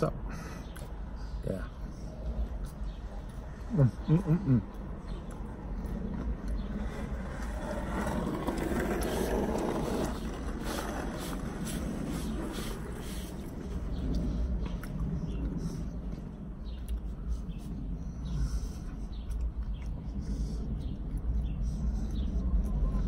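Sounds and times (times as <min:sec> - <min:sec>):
chewing and lip-smacking: 0:02.1 - 0:06.8, 0:09.0 - 0:23.0.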